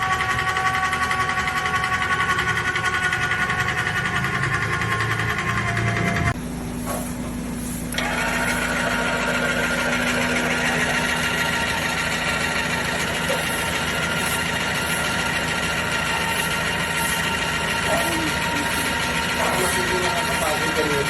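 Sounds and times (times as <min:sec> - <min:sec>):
electric car jack motor running: 0:00.0 - 0:21.0.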